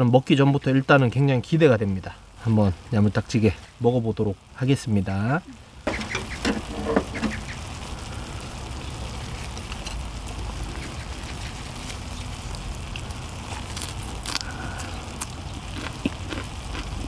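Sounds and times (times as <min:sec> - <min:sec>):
meat sizzling on a griddle: 0:01.0 - 0:17.0.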